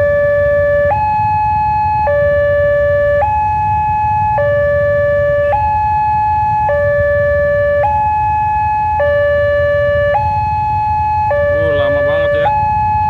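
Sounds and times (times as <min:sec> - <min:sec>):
low rumble of traffic: 0:00.0 - 0:13.0
two-tone crossing alarm: 0:00.0 - 0:13.0.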